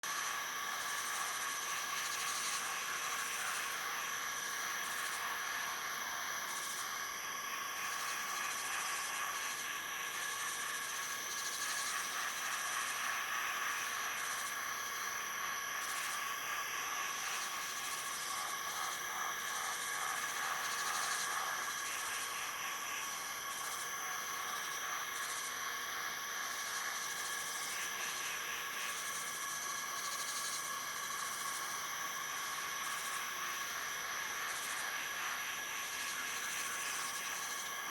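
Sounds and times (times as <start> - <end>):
high-pitched insect drones: 0.1 - 37.9
insect hiss: 0.1 - 37.9
pulsing insect trills: 0.1 - 37.9.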